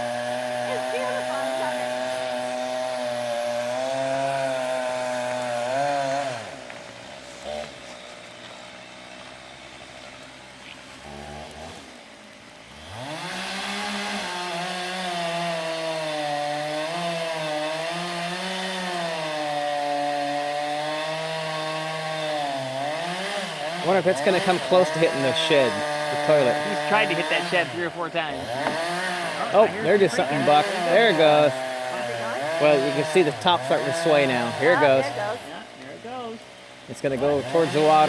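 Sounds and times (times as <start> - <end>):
chainsaw cutting tree trunk: 0.0 - 38.0.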